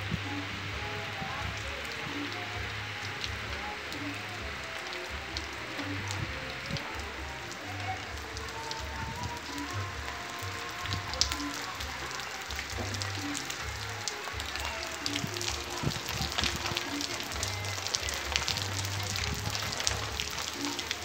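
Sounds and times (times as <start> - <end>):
steady rain on street: 0.0 - 21.0.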